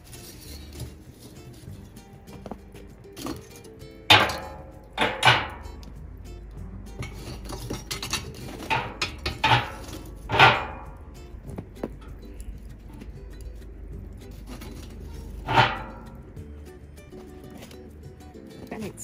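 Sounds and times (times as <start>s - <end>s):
metal clanking: 0.0s - 19.0s.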